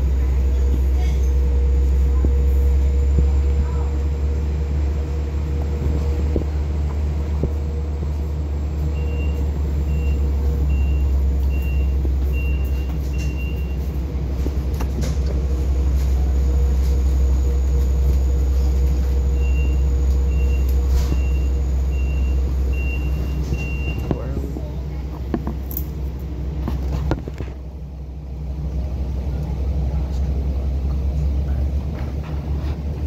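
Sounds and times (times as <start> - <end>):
diesel locomotive drone: 0.0 - 33.0.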